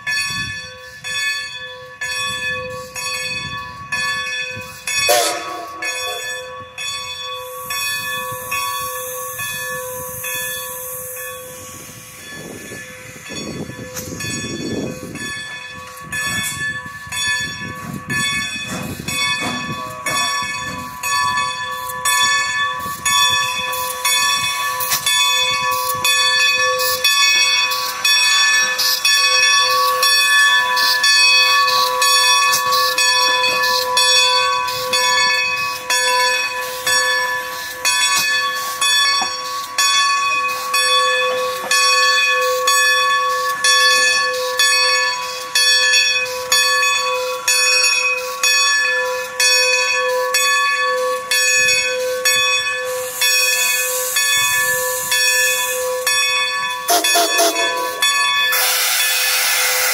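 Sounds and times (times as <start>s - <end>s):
locomotive bell ringing: 0.0s - 59.9s
locomotive rumbling: 1.8s - 42.8s, 51.4s - 59.9s.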